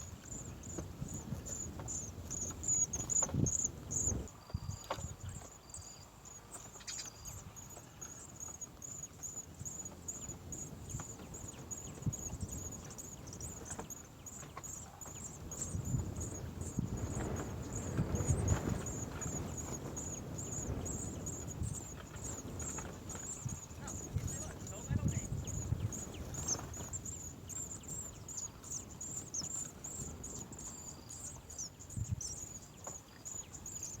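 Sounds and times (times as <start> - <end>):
insect chirping: 0.0 - 34.0.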